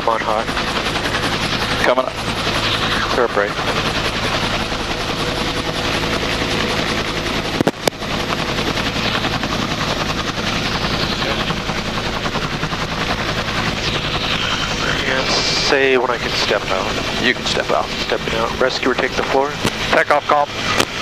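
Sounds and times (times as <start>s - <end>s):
helicopter rotor and turbine: 0.0s - 21.0s.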